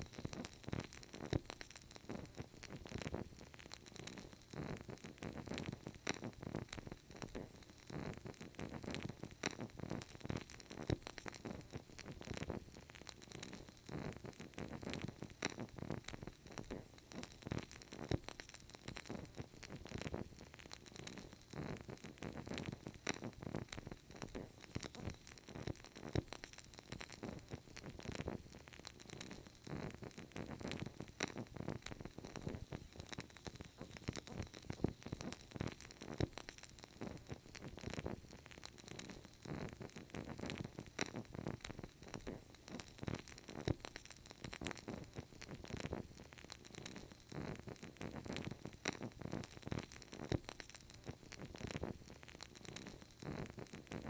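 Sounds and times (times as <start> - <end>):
candle crackling: 0.0 - 54.0.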